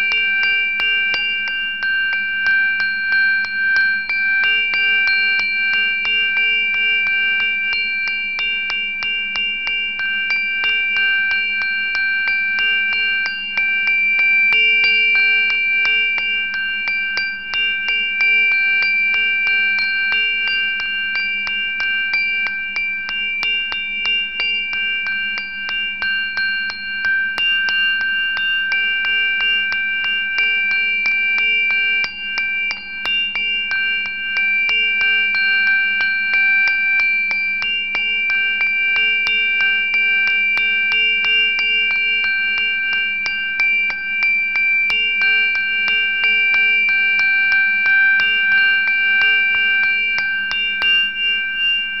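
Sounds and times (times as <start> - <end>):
sustained bell-like tones: 0.0 - 52.0.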